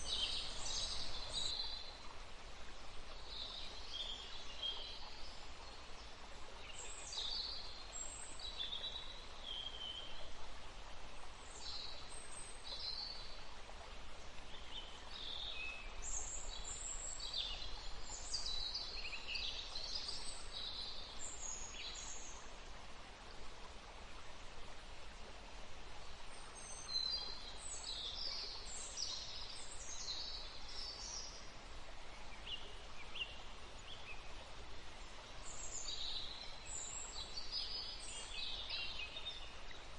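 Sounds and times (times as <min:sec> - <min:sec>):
songbirds chirping: 0:00.0 - 0:39.9
stream flowing: 0:00.0 - 0:39.9.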